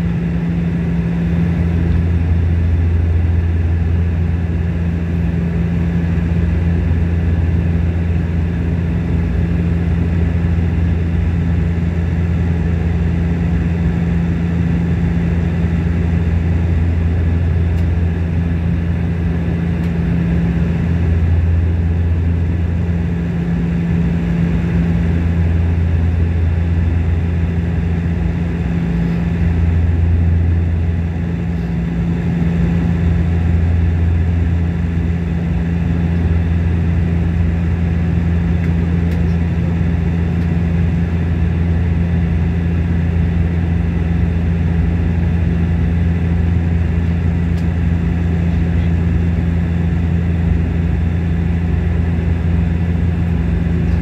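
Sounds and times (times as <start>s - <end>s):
turboprop engine cabin drone: 0.0s - 54.0s.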